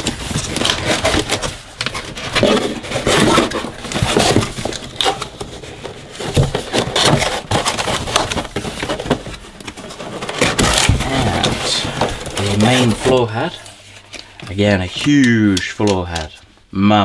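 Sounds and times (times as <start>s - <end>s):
cardboard scraping and rustling: 0.0s - 14.8s.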